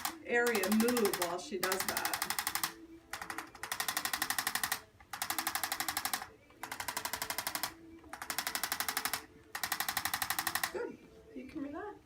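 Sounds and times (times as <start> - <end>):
adjusting instrument tapping rapidly: 0.0 - 10.8.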